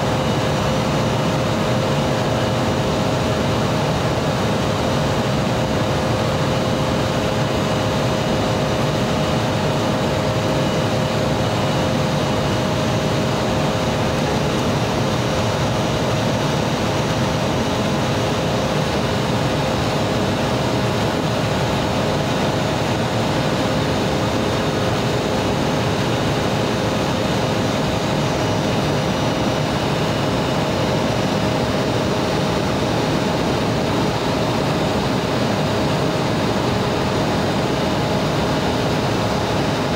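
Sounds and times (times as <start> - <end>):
jet engines and rushing airflow: 0.0 - 39.9.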